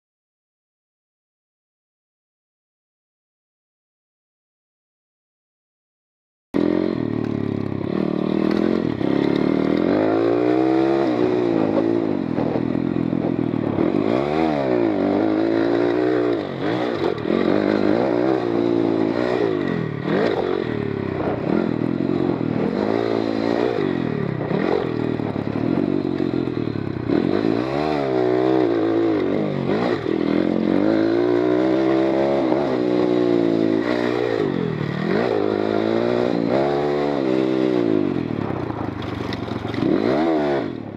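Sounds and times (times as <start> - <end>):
motorbike engine revving: 6.6 - 40.9.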